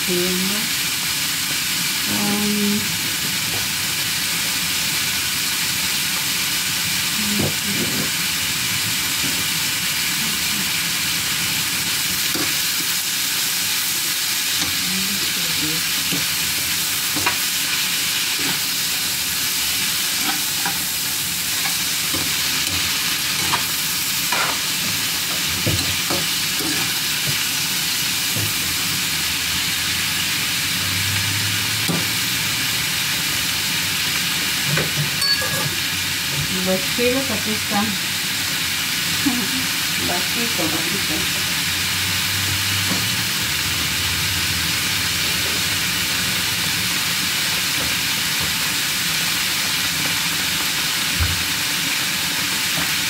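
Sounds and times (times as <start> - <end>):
squash sizzling in a skillet: 0.0 - 53.0.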